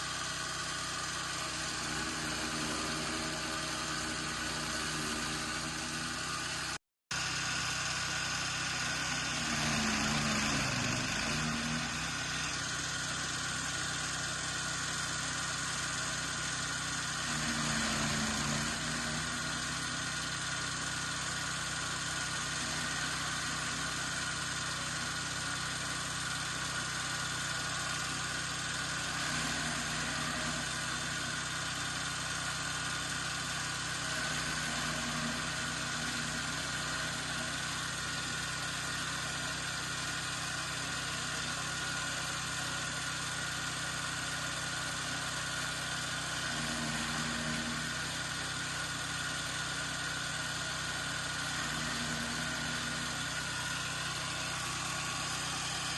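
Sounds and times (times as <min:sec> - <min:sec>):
chaff cutter machine running: 0:00.0 - 0:55.9.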